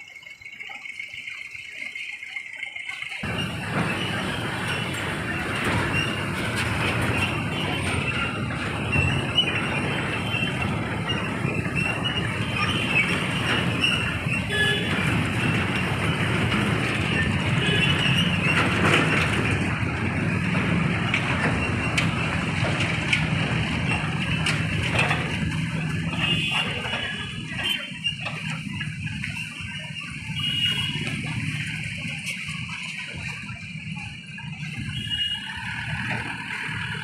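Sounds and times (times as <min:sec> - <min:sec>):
faint voices: 0:00.0 - 0:37.0
heavy machine engine running: 0:02.6 - 0:37.0.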